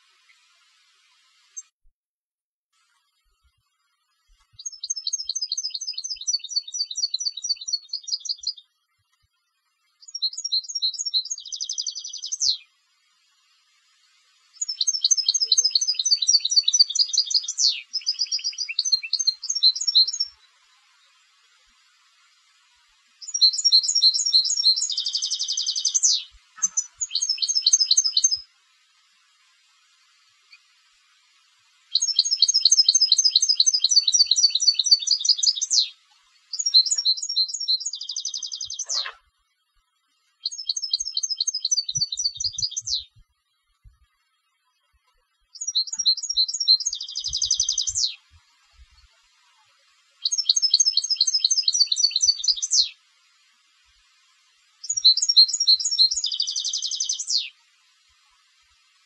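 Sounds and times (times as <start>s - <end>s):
goldfinch twittering and trills: 3.0s - 31.0s, 31.8s - 39.2s, 40.3s - 43.2s, 43.9s - 53.0s, 54.2s - 58.6s.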